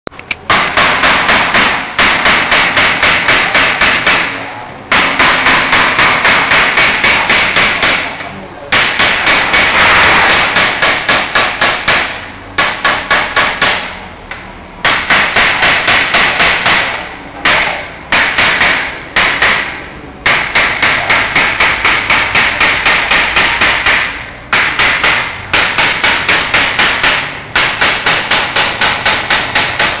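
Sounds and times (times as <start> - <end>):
hammer tapping on metal: 0.3 - 30.0.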